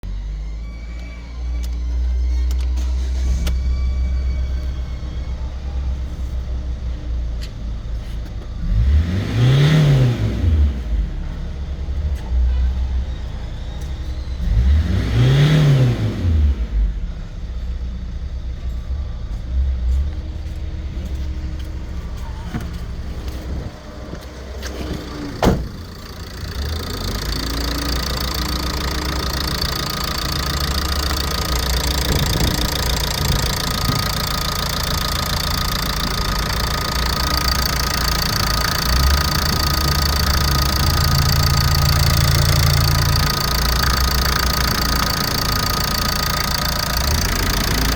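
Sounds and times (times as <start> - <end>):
diesel engine revving and idling: 0.0 - 47.9.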